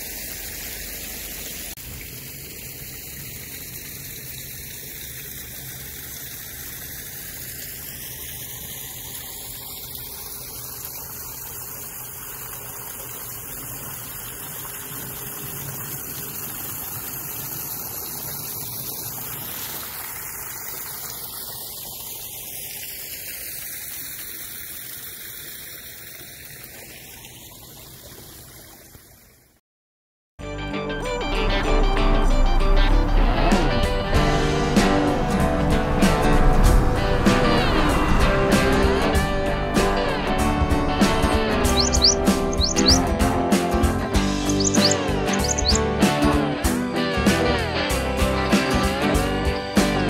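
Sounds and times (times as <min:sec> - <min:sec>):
water splashing down waterfall: 0:00.0 - 0:29.2, 0:35.0 - 0:46.5.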